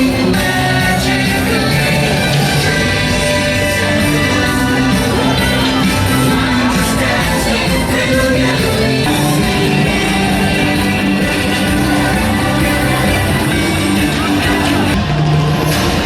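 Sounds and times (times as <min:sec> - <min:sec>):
rock music with singing: 0:00.0 - 0:16.0.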